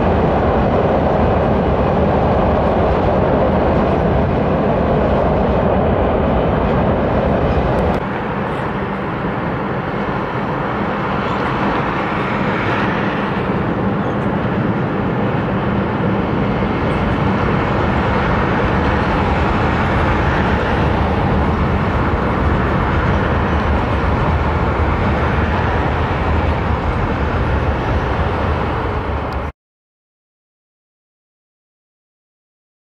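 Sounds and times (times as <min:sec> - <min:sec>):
road traffic: 0:00.0 - 0:29.5
train rolling across bridge: 0:00.0 - 0:29.5.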